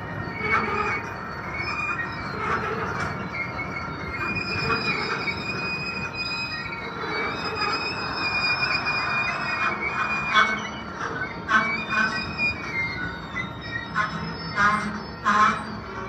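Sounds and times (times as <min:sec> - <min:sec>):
freight cars rumbling: 0:00.0 - 0:16.0
steel wheels squealing on rail: 0:00.0 - 0:16.0.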